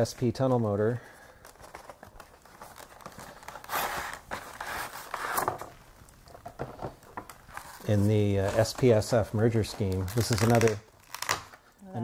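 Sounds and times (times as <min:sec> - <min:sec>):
cardboard and plastic rustling: 0:00.0 - 0:11.7.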